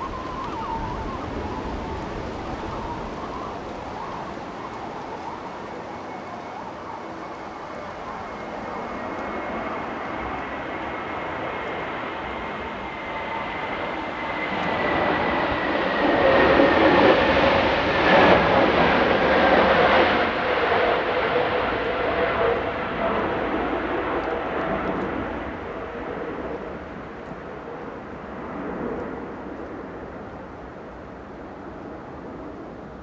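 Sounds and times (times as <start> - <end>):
jet airliner flying past: 0.0 - 33.0.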